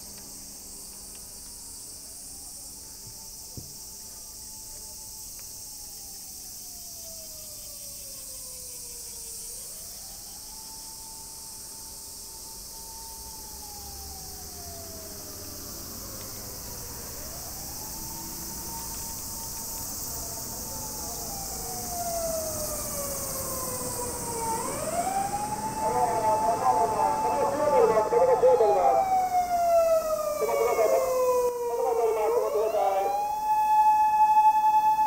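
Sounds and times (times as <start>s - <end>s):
emergency vehicle siren wailing: 2.3s - 35.0s.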